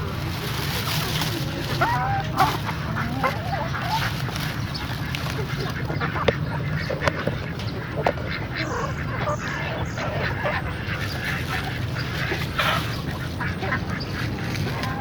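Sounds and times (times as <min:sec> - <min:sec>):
domestic fowl calling: 0:00.0 - 0:15.0
low background hum: 0:00.0 - 0:15.0.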